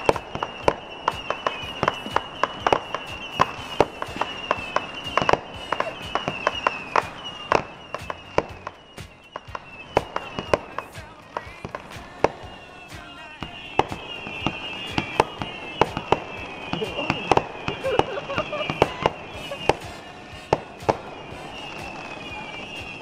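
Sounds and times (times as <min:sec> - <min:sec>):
fireworks popping and crackling: 0:00.0 - 0:23.0
high wavering tone: 0:00.0 - 0:23.0.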